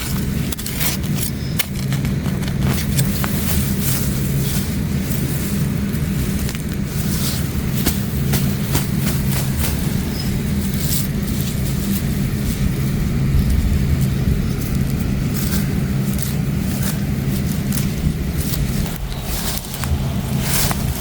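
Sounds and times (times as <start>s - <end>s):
low hum: 0.0s - 21.0s
plants being pulled by hand: 0.0s - 21.0s.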